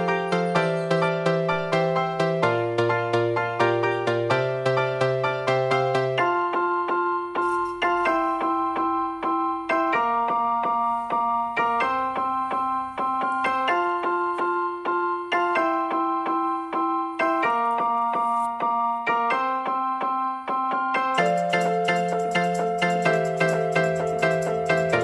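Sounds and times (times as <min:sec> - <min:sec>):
keyboard music: 0:00.0 - 0:25.0.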